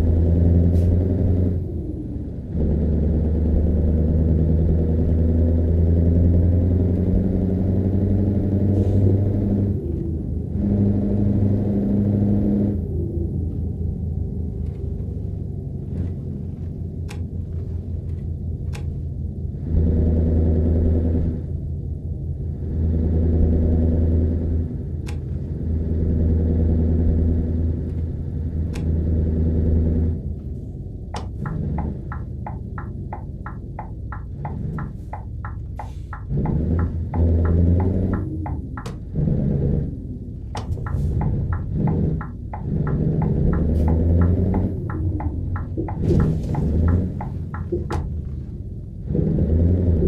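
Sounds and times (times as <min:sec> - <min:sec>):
diesel truck engine idling and revving: 0:00.0 - 0:50.0.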